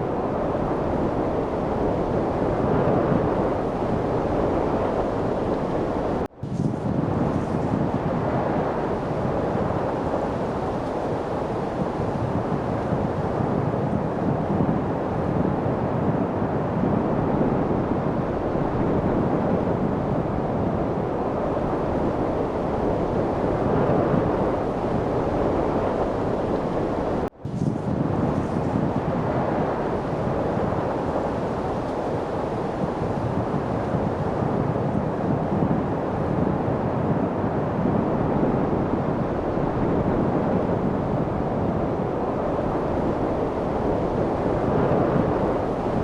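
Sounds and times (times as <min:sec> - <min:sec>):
steady wind blowing: 0:00.0 - 0:46.0.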